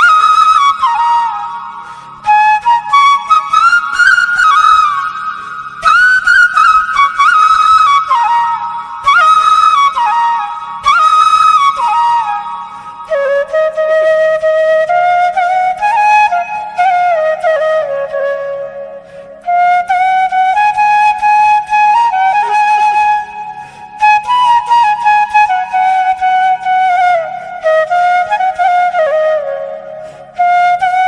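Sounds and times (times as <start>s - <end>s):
flute melody: 0.0s - 31.0s.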